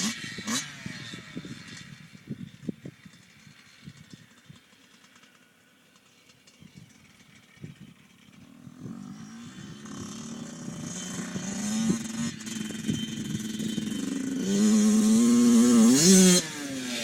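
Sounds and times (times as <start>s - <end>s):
dirt bike engine approaching: 0.0s - 17.0s.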